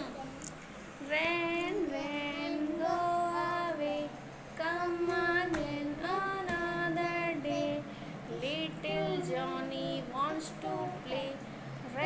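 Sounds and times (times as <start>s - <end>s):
girl singing: 0.0s - 12.0s.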